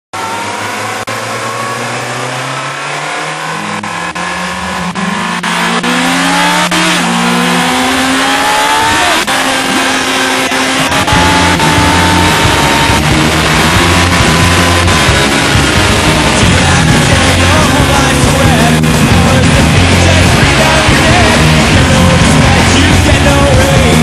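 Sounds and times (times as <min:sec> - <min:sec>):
motorcycle engine accelerating: 0:00.2 - 0:24.0.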